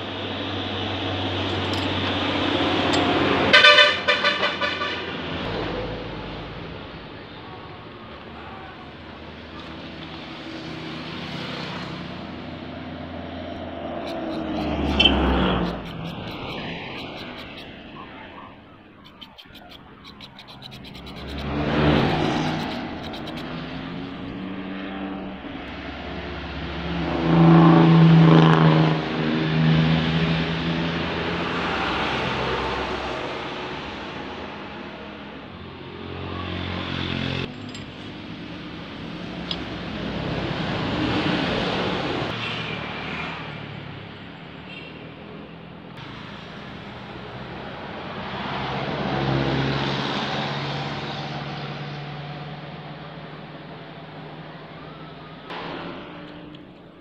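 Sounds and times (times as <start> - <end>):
passing vehicle engine hum: 0.0 - 57.0.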